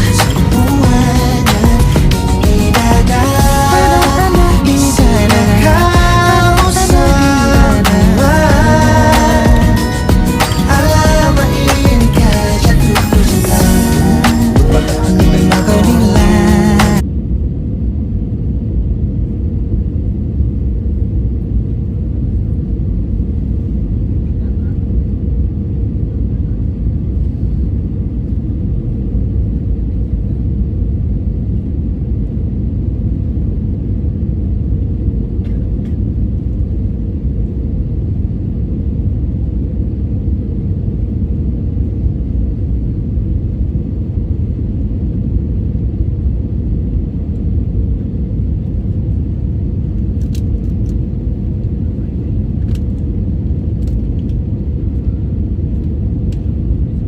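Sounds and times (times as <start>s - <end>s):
even hum: 0.0s - 57.0s
jet engine and airflow rumble: 0.0s - 57.0s.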